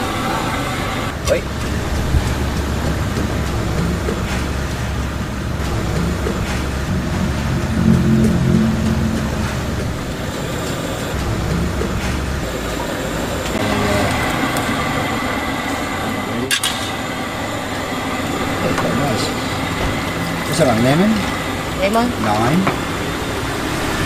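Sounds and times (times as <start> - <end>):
low rumbling background: 0.6 - 23.6.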